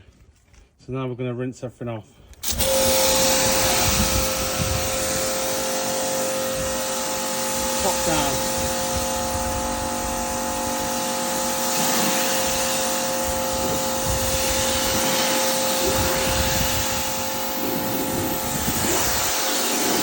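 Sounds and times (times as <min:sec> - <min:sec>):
pressure washer motor whine: 0:02.4 - 0:20.0
water jet hissing: 0:02.4 - 0:20.0.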